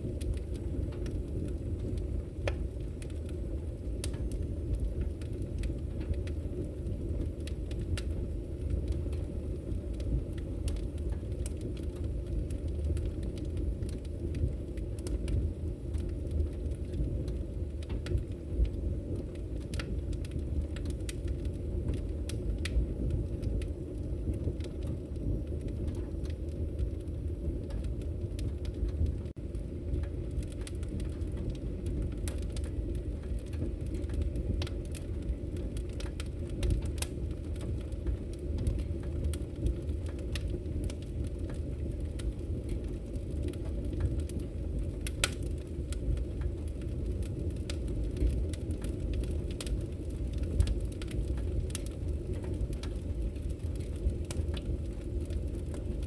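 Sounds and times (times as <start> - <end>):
crackles and pops of burning wood: 0.0 - 56.0
low rush of fire: 0.0 - 56.0.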